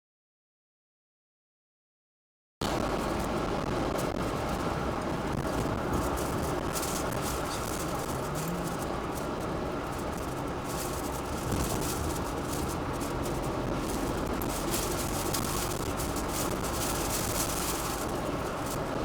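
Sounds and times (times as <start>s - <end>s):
vehicle rumble: 2.6s - 19.0s.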